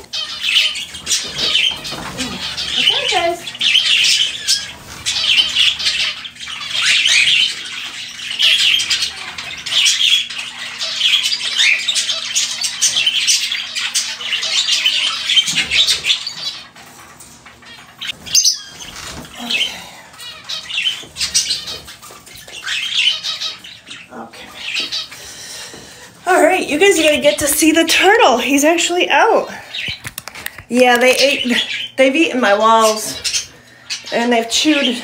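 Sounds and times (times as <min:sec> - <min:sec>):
pet birds squawking and chirping: 0:00.0 - 0:35.0.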